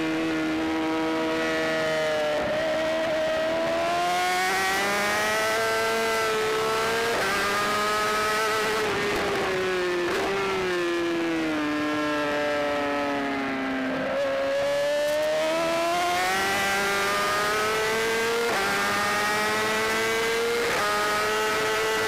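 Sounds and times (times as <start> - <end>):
superbike engine at high revs: 0.0 - 22.0.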